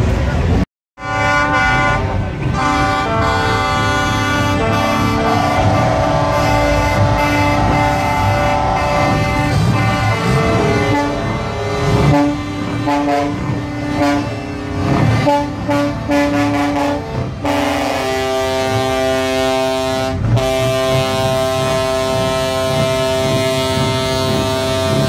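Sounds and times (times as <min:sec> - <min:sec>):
truck air horns: 0:01.0 - 0:25.0.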